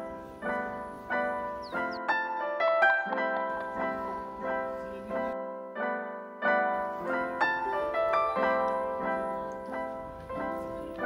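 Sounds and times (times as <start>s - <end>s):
gentle melody of struck notes: 0.0s - 11.0s.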